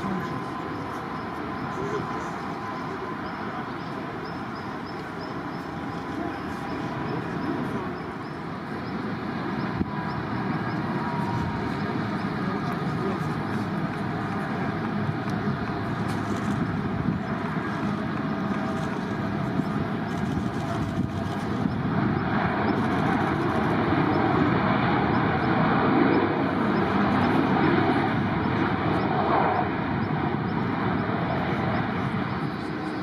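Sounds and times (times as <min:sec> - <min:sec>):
jet airliner engine rumble: 0:00.0 - 0:33.0.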